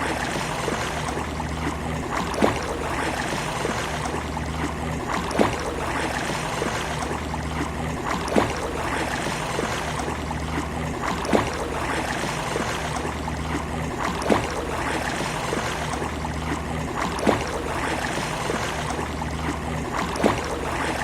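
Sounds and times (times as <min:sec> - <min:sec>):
sea waves washing on beach: 0:00.0 - 0:21.0
sharp water slap: 0:00.0 - 0:21.0.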